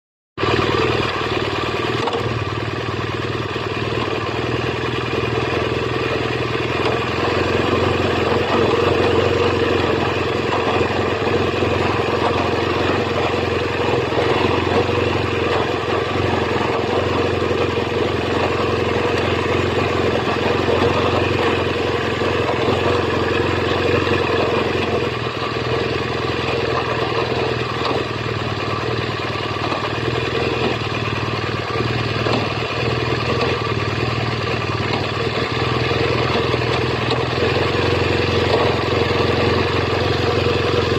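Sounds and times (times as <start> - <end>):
motorcycle engine running: 0.4 - 40.9.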